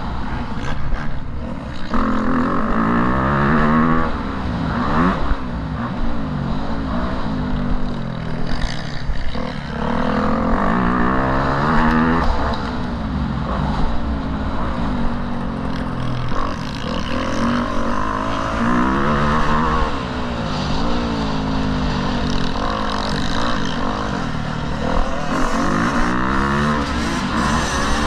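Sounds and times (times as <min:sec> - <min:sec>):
motocross bike engine revving: 0:00.5 - 0:28.0.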